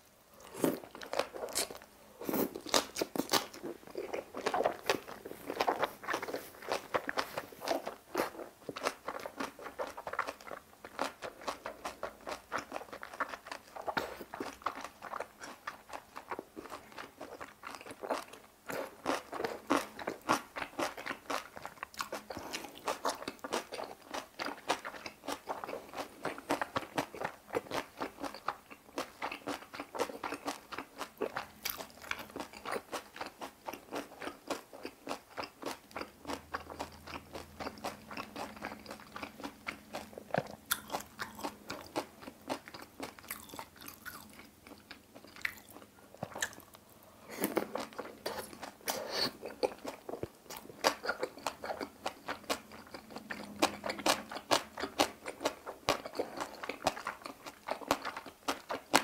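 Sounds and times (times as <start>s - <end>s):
crunchy chewing: 0.4s - 59.0s.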